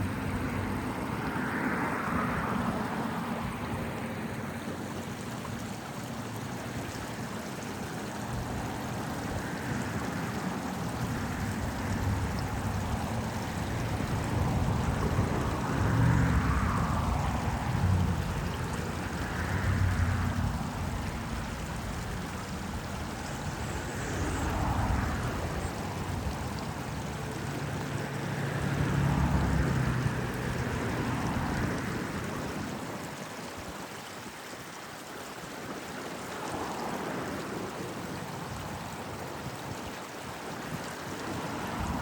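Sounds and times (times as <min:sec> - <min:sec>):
passing vehicles: 0:00.0 - 0:33.4, 0:36.3 - 0:42.0
small stream babbling: 0:00.0 - 0:42.0.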